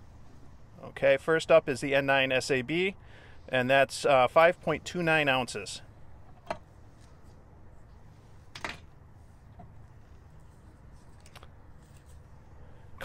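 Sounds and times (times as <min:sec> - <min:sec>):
low steady background: 0:00.0 - 0:13.0.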